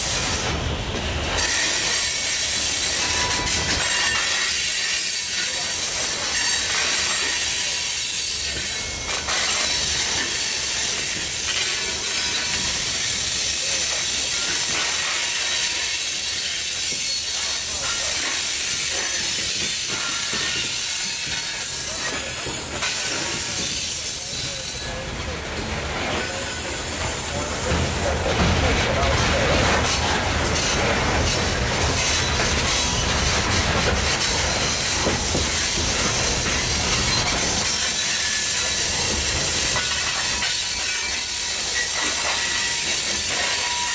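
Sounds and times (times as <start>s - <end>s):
freight train wheels rolling: 0.0s - 43.9s.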